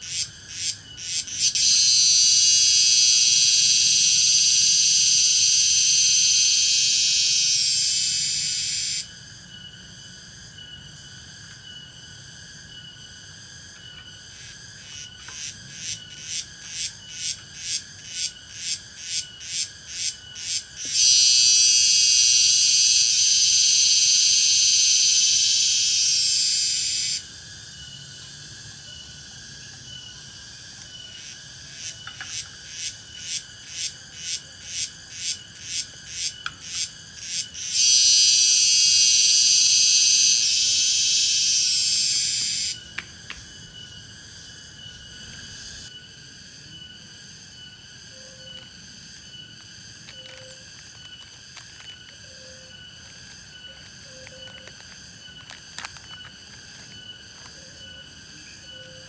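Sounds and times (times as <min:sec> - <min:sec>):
cicadas buzzing steadily: 0:00.0 - 0:59.0
pulsing insect call: 0:00.0 - 0:59.0.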